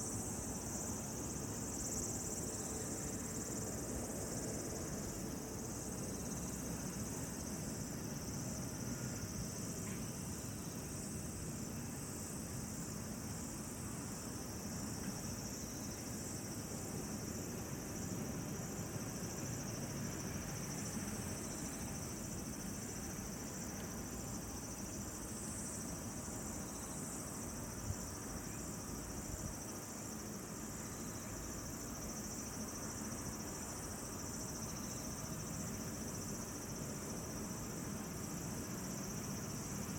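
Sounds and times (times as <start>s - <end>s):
insects chirping: 0.0s - 39.9s
outdoor ambient hiss: 0.0s - 39.9s.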